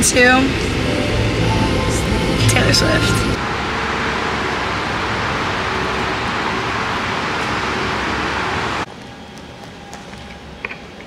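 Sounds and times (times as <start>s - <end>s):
steady even noise: 0.0s - 8.9s.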